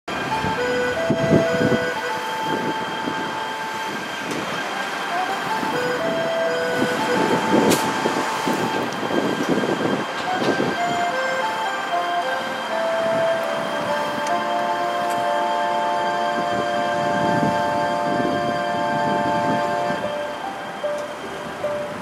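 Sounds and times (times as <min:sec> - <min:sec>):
clock melody over loudspeaker: 0:00.1 - 0:22.0
street traffic noise: 0:00.1 - 0:22.0.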